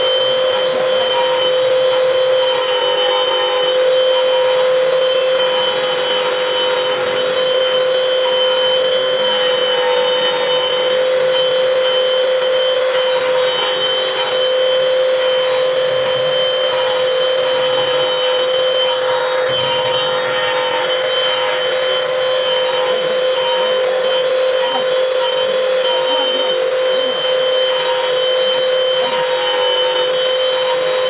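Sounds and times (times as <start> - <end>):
router spindle whine: 0.0 - 31.0.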